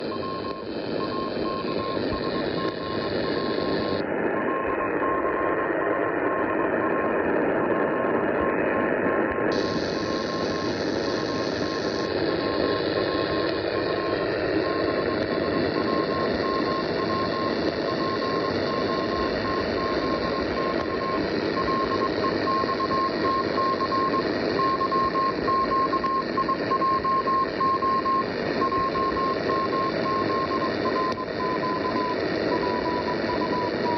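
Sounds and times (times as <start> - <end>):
radio static hiss: 0.0 - 33.9
morse code beeps: 0.1 - 5.6, 9.6 - 33.9.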